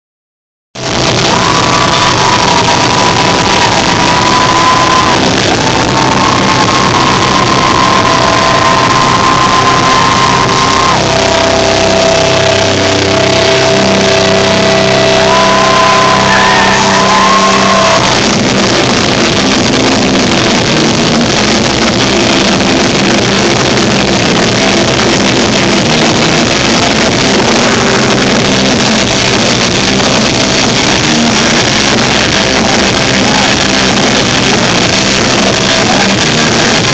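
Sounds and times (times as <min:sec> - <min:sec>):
live rock band: 0:00.8 - 0:36.9
sliding lead guitar notes: 0:00.8 - 0:36.9.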